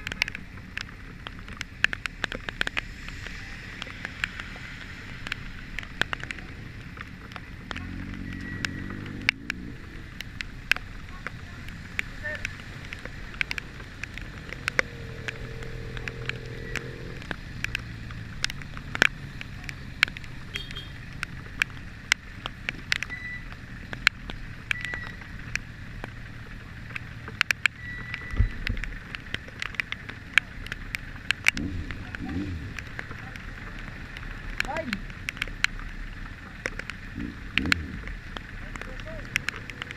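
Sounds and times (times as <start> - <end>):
raindrops ticking on camera: 0.0 - 39.9.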